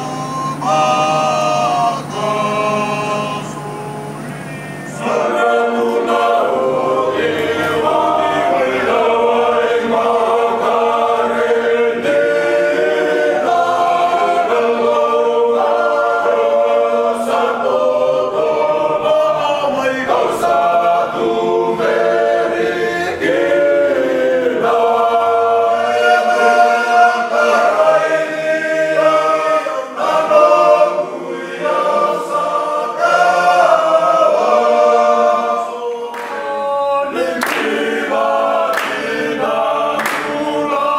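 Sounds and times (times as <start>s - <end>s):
men singing in harmony: 0.0s - 40.9s.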